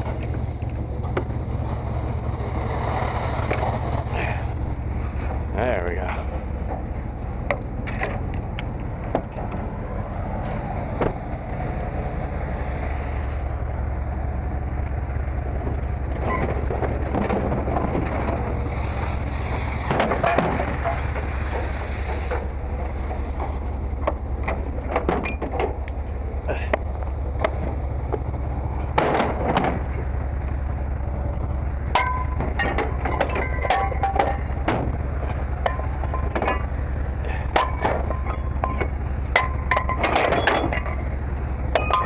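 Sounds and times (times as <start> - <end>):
knocks and metallic clatter: 0.0 - 9.8, 10.4 - 11.4, 15.6 - 42.0
steady low hum: 0.0 - 42.0.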